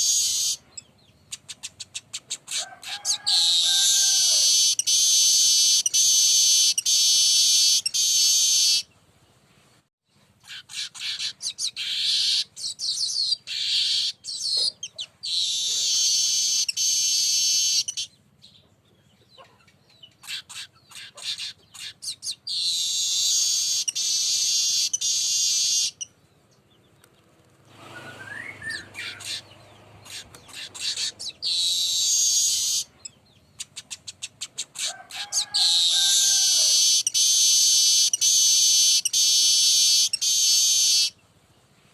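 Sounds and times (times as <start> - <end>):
weaver bird chattering song: 0.0 - 2.6, 3.8 - 8.9, 10.4 - 27.3, 28.3 - 34.9, 36.0 - 41.2.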